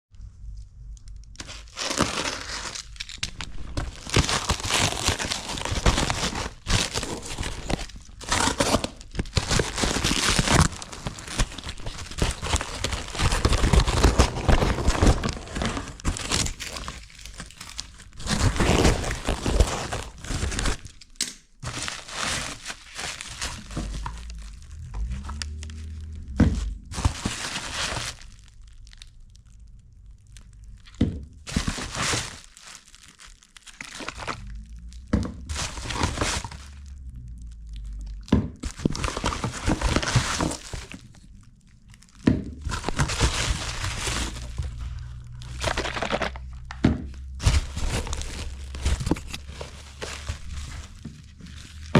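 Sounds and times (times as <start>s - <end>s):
wrapping crinkling and tearing: 0.4s - 51.9s.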